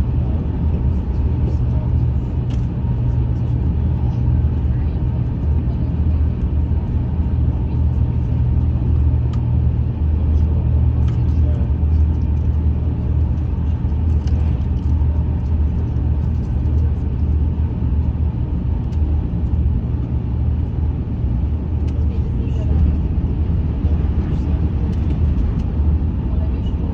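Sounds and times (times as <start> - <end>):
train running low rumble: 0.0 - 26.9.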